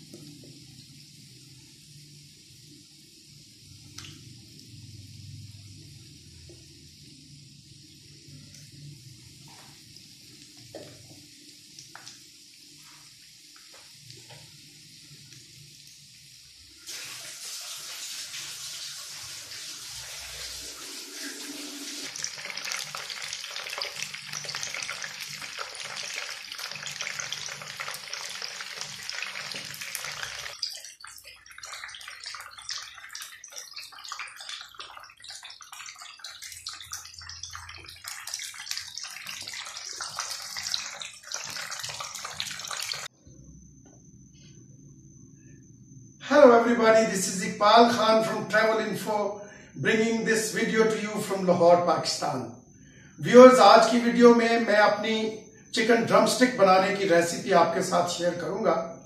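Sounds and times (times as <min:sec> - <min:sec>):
chicken deep-frying in oil: 0:00.0 - 0:43.1, 0:53.2 - 0:59.0.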